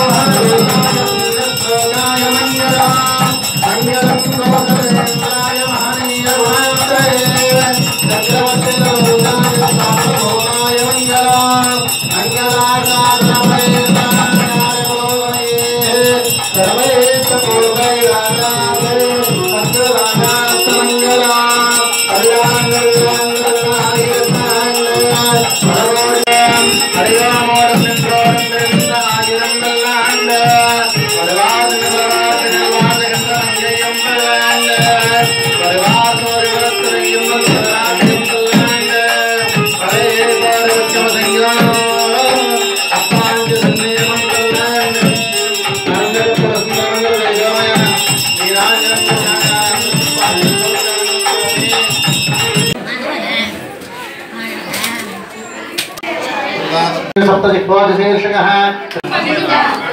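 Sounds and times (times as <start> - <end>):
fast drumming: 0.0 - 52.8
rattling percussion: 0.0 - 52.8.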